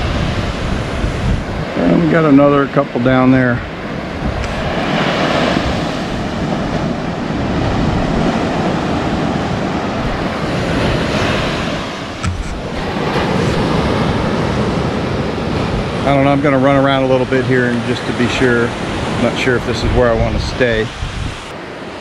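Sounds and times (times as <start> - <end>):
surf washing up the beach: 0.0 - 22.0
wind rumbling on microphone: 0.0 - 22.0.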